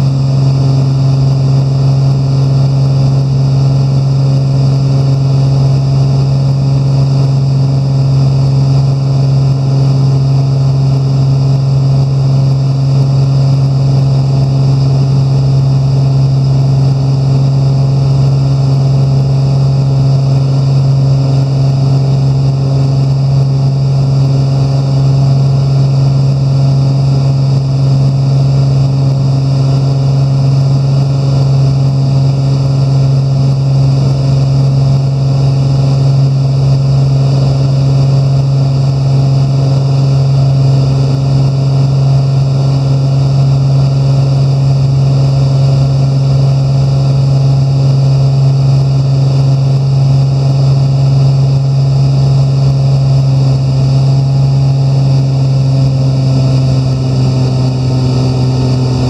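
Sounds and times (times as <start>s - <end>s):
aircraft engine droning in cabin: 0.0s - 59.0s.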